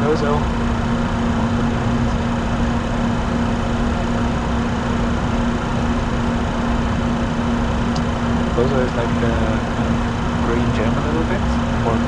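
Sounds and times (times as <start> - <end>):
cockpit airflow and engine noise: 0.0 - 12.0
steady low hum: 0.0 - 12.0.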